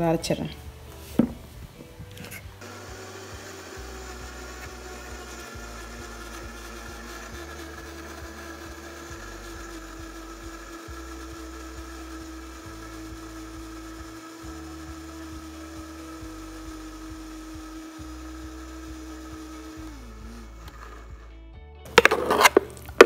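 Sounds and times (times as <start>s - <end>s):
blender running: 2.6s - 23.0s.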